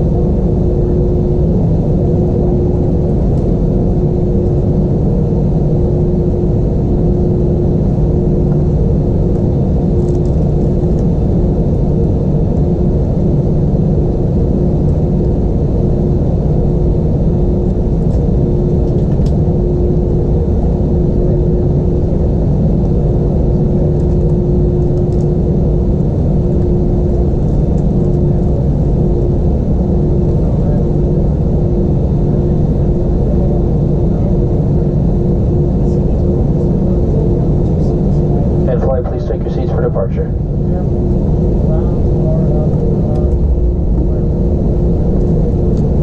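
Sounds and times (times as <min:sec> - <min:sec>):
aircraft cabin engine rumble: 0:00.0 - 0:46.0.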